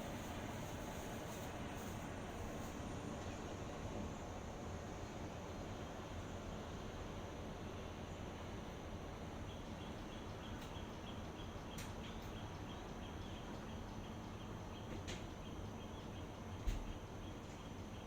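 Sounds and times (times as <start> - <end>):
outdoor ambient hiss: 0.0 - 18.0.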